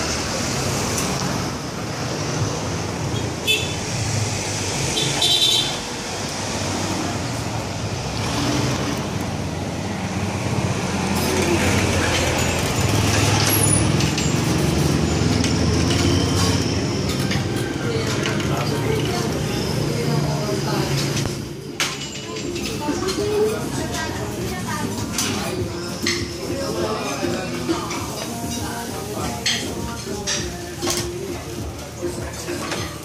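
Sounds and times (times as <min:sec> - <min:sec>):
traffic rumble: 0:00.0 - 0:33.0
background voices: 0:05.9 - 0:33.0.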